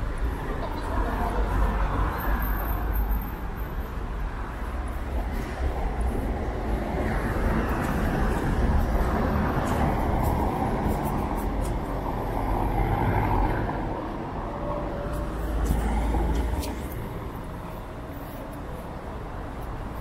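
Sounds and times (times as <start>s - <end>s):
cars driving on stone pavement: 0.0s - 20.0s.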